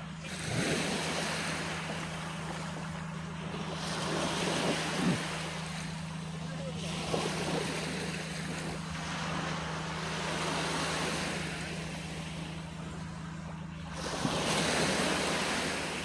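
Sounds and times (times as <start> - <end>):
steady low hum: 0.0 - 16.0
waves breaking on a beach: 0.0 - 16.0.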